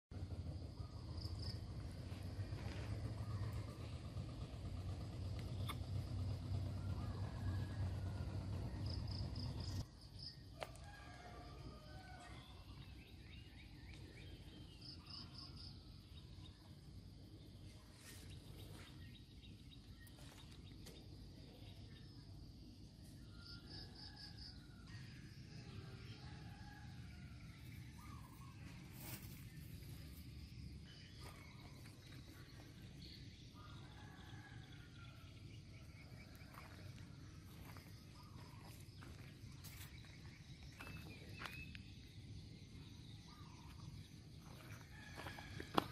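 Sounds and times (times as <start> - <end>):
low steady rumble: 0.1 - 45.9.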